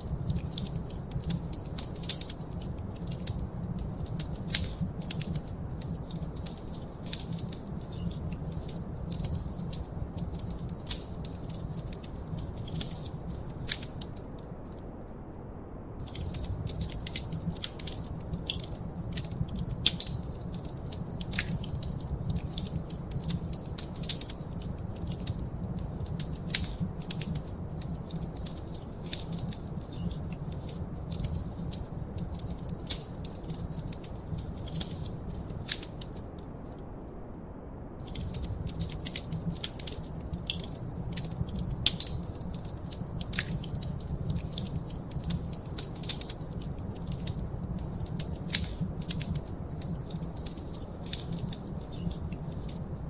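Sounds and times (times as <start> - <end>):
wood fire crackling and popping: 0.0 - 14.8, 16.0 - 37.0, 38.0 - 53.0
low rumble of fire: 0.0 - 53.0.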